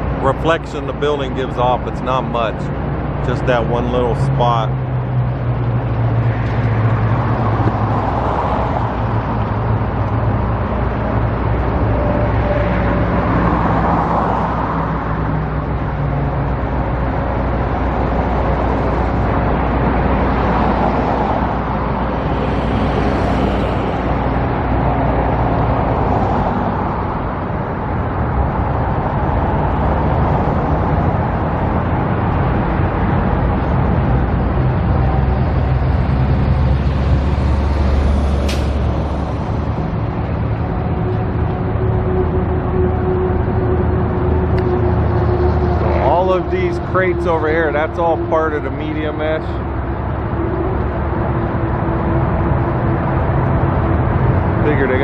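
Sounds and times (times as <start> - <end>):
cars passing by: 0.0 - 55.0
road traffic rumble: 0.0 - 55.0.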